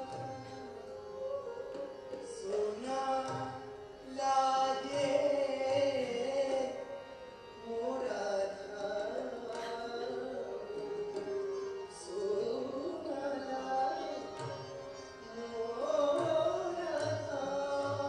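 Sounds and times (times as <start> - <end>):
light tabla: 0.0 - 18.0.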